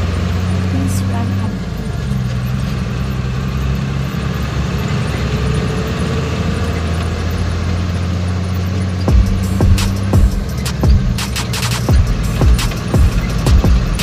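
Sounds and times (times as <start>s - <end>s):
road noise: 0.0s - 14.0s
vehicle engine droning: 0.0s - 14.0s.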